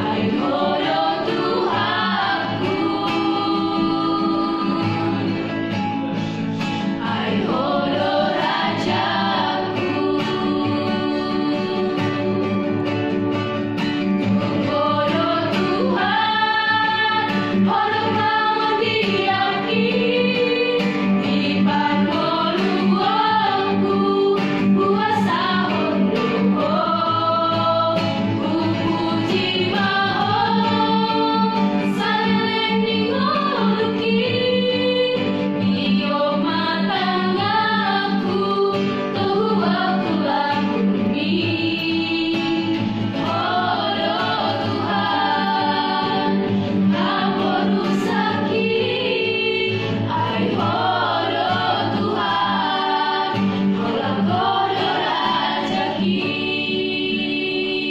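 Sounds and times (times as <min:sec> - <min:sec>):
women singing in harmony: 0:00.0 - 0:13.2, 0:14.2 - 0:57.9
acoustic guitar: 0:00.0 - 0:57.9.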